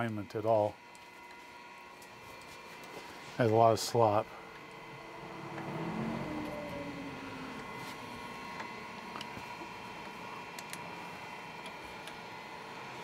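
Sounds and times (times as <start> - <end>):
workshop hiss and hum: 0.0 - 13.0.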